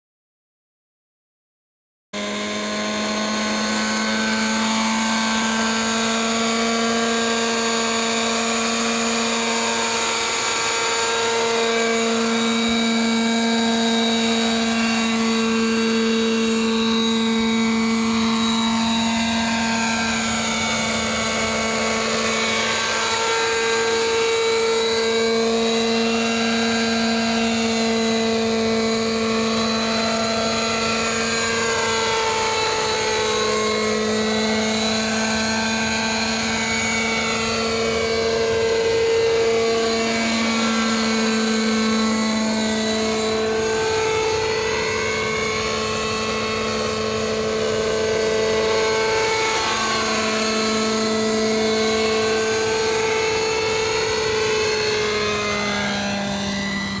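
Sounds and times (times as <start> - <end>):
model helicopter whine: 2.2 - 57.0.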